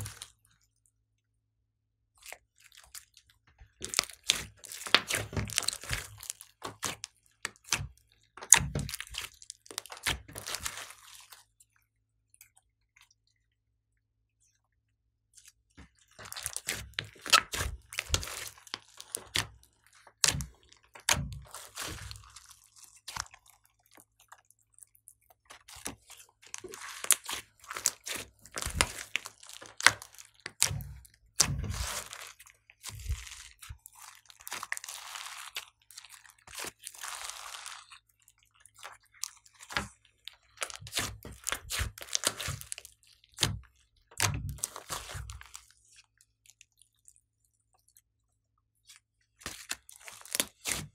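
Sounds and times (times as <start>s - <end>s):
hands squishing slime: 0.0s - 0.4s, 2.2s - 11.8s, 15.4s - 48.0s, 48.8s - 50.9s.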